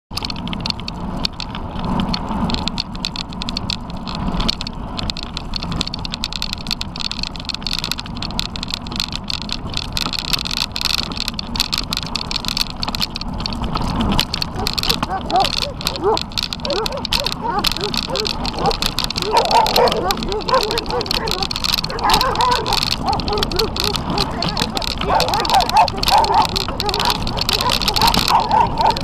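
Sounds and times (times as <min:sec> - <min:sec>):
tyres crunching on gravel: 0:00.4 - 0:29.0.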